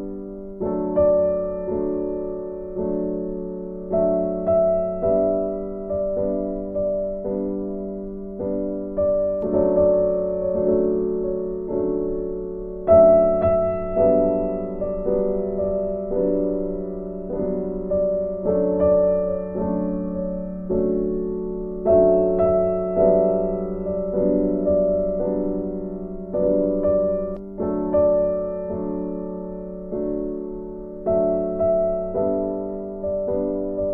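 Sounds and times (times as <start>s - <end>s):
gentle piano music: 0.0s - 33.9s.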